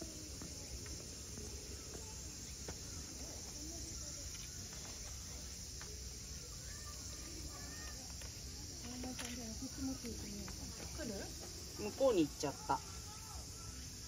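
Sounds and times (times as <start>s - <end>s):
faint distant voices: 0.0s - 14.0s
insect chorus: 0.0s - 14.0s.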